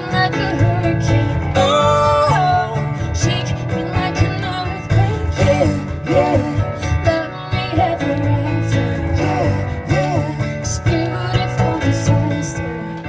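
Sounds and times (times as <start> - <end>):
electronic keyboard chords: 0.0 - 13.0
woman singing pop ballad: 0.0 - 13.0.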